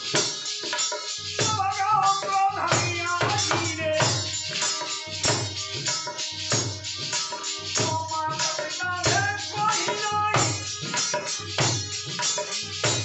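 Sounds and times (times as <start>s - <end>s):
hand drum rhythm: 0.0s - 13.0s
harmonium melody: 0.0s - 13.0s
jingling percussion: 0.0s - 13.0s.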